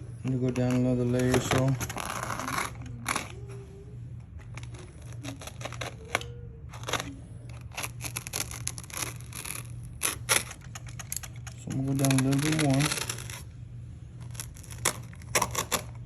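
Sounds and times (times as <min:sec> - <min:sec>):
steady low hum: 0:00.0 - 0:16.0
foam being torn: 0:00.6 - 0:03.4, 0:04.5 - 0:11.1, 0:11.7 - 0:13.5, 0:14.2 - 0:16.0.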